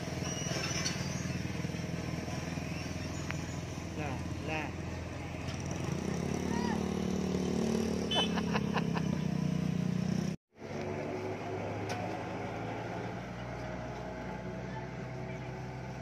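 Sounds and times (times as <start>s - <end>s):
motor scooter passing: 0.0s - 16.0s
road roller engine drone: 0.0s - 16.0s.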